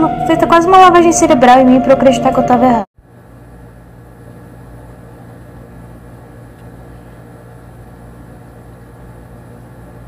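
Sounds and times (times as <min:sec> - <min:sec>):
low electric hum: 0:00.0 - 0:10.0.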